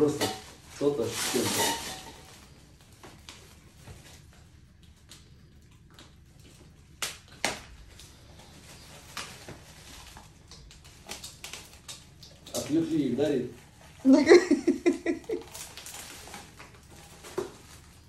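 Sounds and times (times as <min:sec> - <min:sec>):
cardboard and plastic wrap handling: 0:00.0 - 0:04.6, 0:07.0 - 0:18.0.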